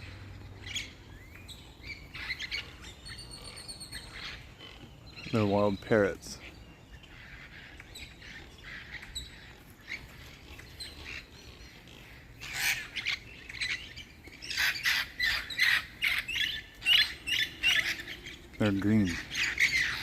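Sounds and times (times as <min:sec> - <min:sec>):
parrots squawking: 0:00.0 - 0:05.5, 0:06.4 - 0:20.0.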